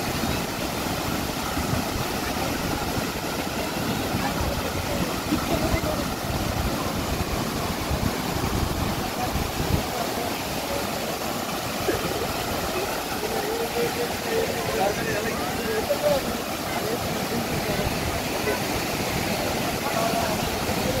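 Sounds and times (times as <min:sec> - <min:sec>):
water rushing over a weir: 0:00.0 - 0:21.0.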